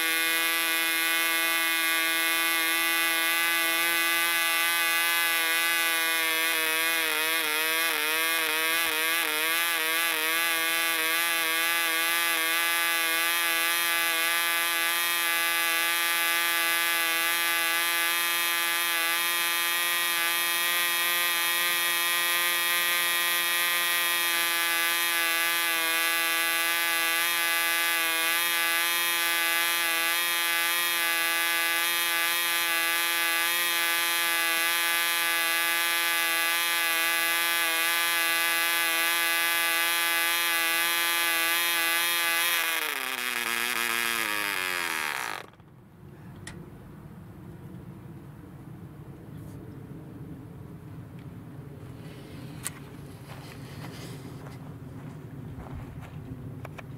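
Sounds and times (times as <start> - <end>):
model engine high-pitched buzz: 0.0 - 46.6, 51.8 - 54.6.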